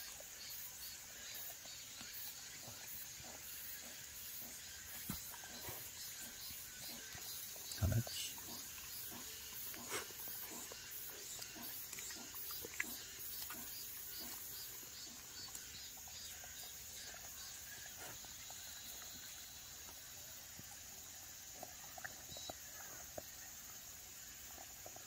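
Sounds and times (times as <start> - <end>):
dogs chewing and lip-smacking: 0.0 - 23.6.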